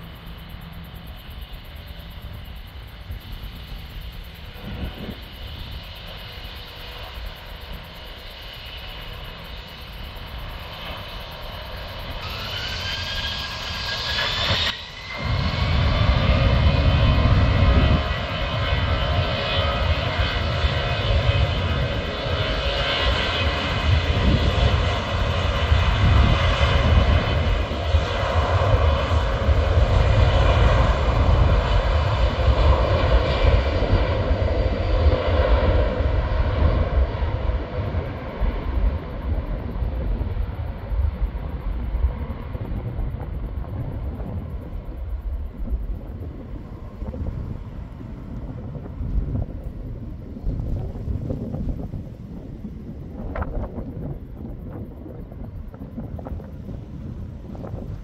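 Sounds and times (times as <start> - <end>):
jet engines whining and rumbling: 0.0 - 58.0.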